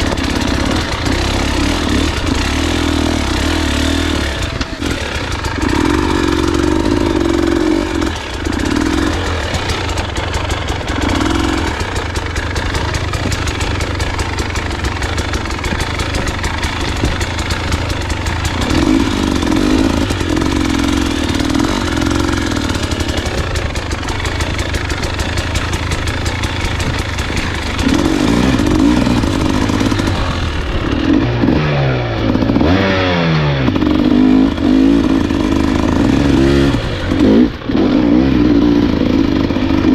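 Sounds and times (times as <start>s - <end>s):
dirt bike engine revving: 0.0s - 39.9s
rattling and clatter: 0.0s - 39.9s.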